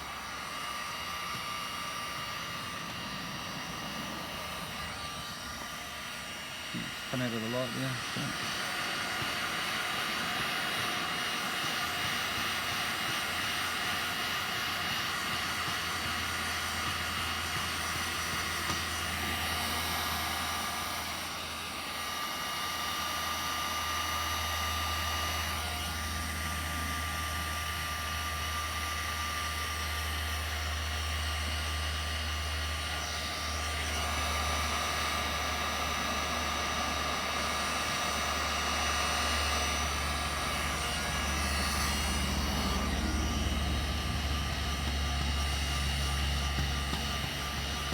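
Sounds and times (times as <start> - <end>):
heat gun blowing: 0.0 - 47.9.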